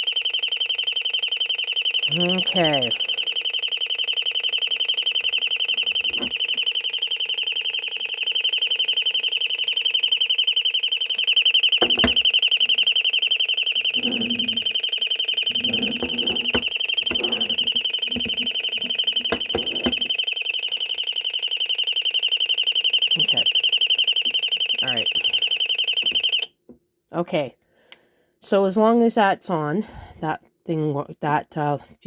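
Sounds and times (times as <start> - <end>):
warbling alarm tone: 0.0 - 26.5.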